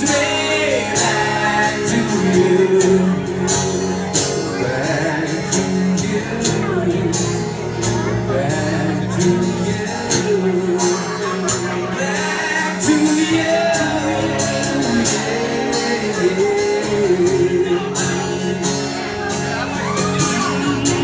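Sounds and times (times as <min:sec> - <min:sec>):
man singing: 0:00.0 - 0:21.0
strummed acoustic guitar: 0:00.0 - 0:21.0.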